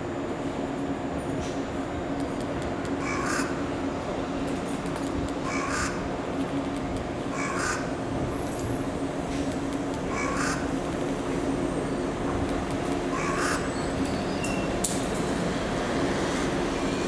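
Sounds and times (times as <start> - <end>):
electric train humming: 0.0 - 17.0.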